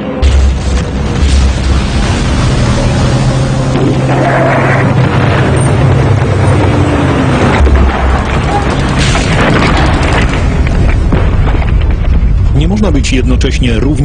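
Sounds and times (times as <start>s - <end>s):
booming explosions: 0.0s - 14.0s
continuous rumbling din: 0.0s - 14.0s.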